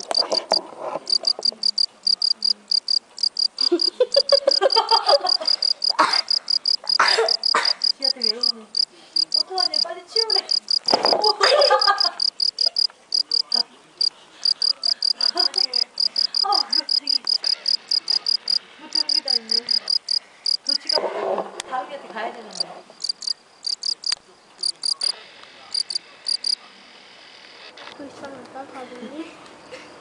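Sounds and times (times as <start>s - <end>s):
cricket chirping: 0.0s - 21.0s, 21.8s - 26.7s
faint voices talking: 0.0s - 30.0s.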